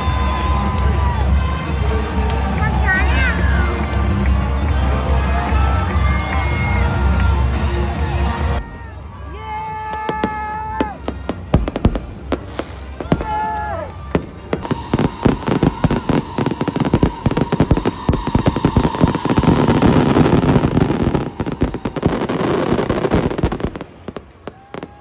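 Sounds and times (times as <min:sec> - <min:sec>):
crowd clapping and cheering: 0:00.0 - 0:25.0.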